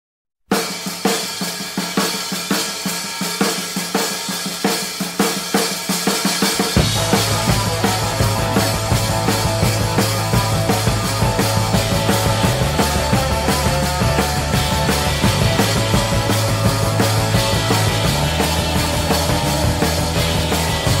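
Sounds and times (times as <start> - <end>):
drum kit beat: 0.5 - 21.0
rock music: 0.6 - 21.0.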